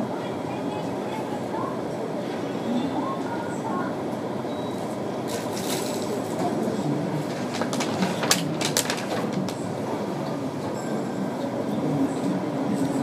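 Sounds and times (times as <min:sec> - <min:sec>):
murmur of many people talking: 0:00.0 - 0:13.0.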